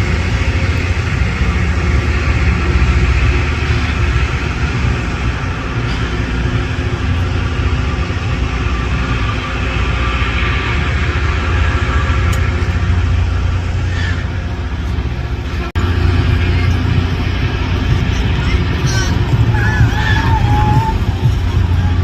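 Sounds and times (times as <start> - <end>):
diesel engines running: 0.0 - 22.0
rail grinding noise: 0.0 - 22.0.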